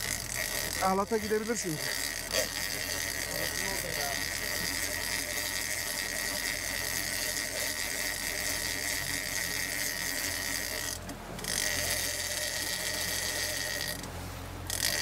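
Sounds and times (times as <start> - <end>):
fishing reel drag screaming: 0.0 - 14.0, 14.7 - 15.0.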